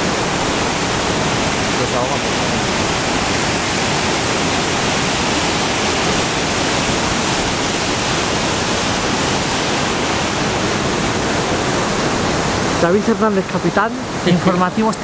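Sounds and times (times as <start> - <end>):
river water rushing through rapids: 0.0 - 15.0.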